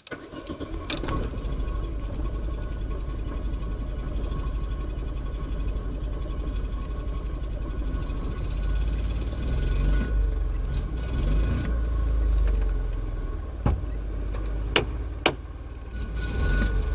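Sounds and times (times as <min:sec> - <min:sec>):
car engine running steadily: 0:00.0 - 0:16.9.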